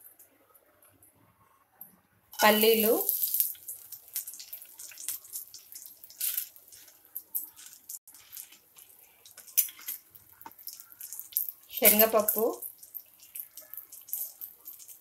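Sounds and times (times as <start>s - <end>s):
oil popping and crackling: 2.4s - 15.0s
peanuts frying in hot oil: 2.4s - 15.0s.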